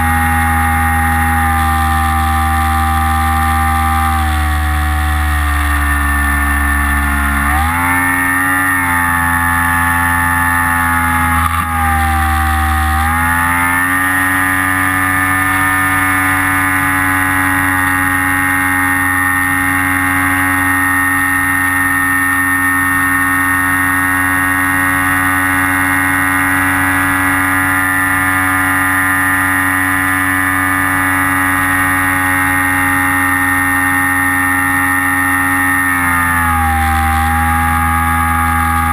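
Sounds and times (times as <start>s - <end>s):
electric motor and propeller droning: 0.0s - 38.9s.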